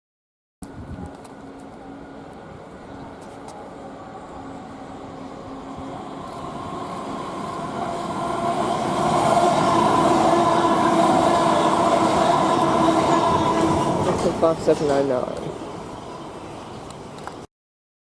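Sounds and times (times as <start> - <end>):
train wheels rumbling: 1.0 - 17.4.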